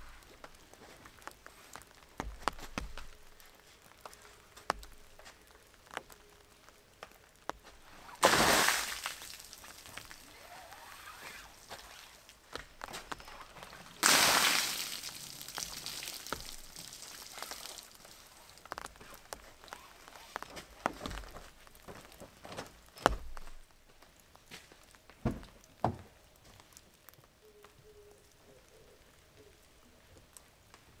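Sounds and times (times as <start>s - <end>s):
light rain: 0.0s - 31.0s.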